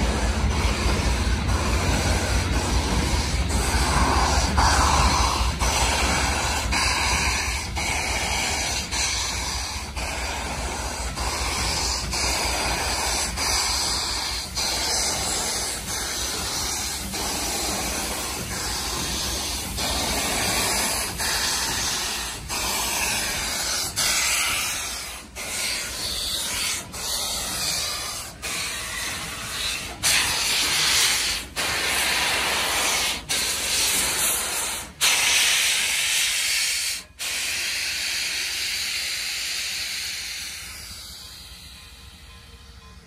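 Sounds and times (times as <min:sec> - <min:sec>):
steam locomotive venting hiss: 0:00.0 - 0:43.0.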